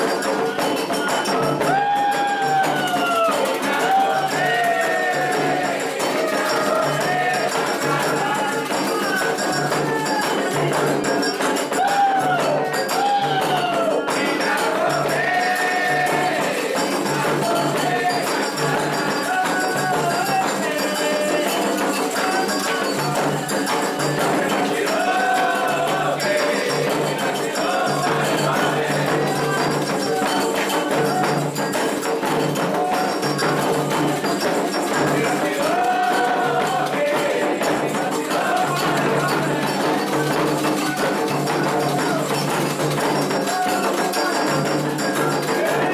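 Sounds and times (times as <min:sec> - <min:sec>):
hand drums: 0:00.0 - 0:45.9
sung chant: 0:00.0 - 0:45.9.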